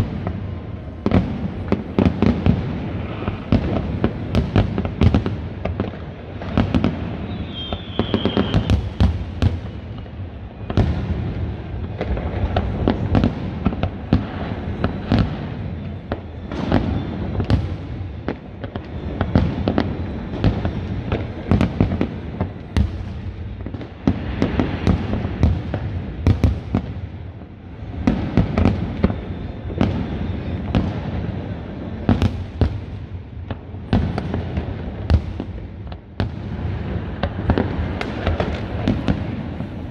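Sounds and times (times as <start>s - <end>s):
fireworks bursting with sharp bangs: 0.0s - 39.9s.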